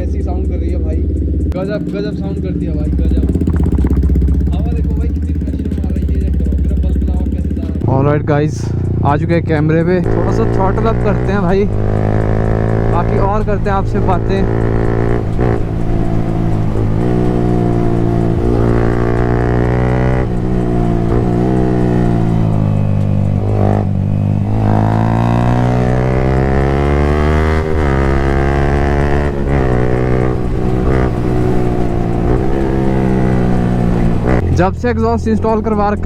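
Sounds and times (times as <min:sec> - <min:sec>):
motorcycle engine under throttle: 0:00.0 - 0:36.0.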